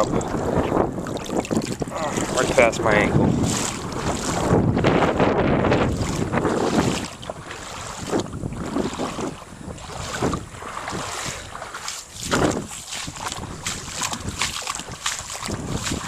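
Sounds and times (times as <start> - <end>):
feet splashing through water: 0.0 - 16.0
wind buffeting microphone: 0.0 - 16.0.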